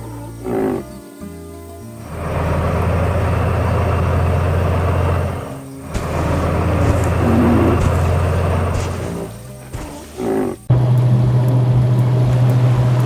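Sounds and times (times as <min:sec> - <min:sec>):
vehicle engine droning: 0:02.0 - 0:13.0.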